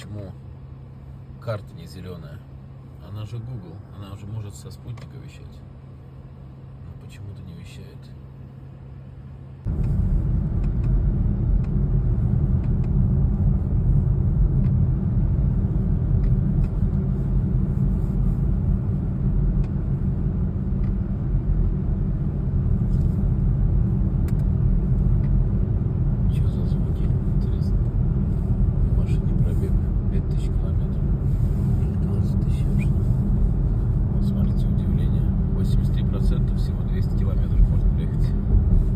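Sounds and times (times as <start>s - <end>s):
road rumble inside car: 0.0s - 38.9s.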